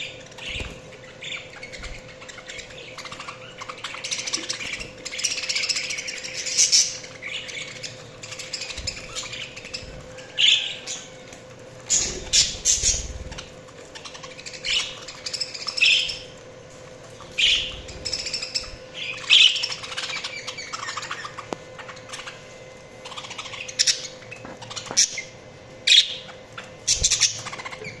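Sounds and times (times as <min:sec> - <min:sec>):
budgerigars chirping: 0:00.0 - 0:11.2, 0:11.9 - 0:16.3, 0:17.2 - 0:22.4, 0:23.0 - 0:28.0.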